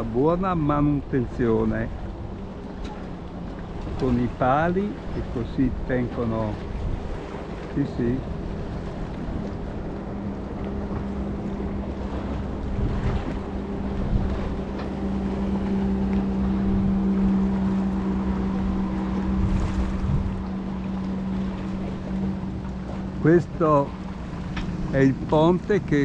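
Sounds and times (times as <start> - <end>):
steady low hum: 0.0 - 26.0
wind buffeting microphone: 0.0 - 26.0.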